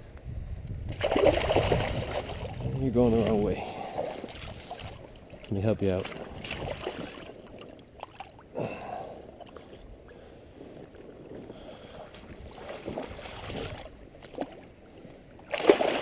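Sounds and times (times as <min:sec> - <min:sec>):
water sloshing and splashing: 0:00.9 - 0:16.0.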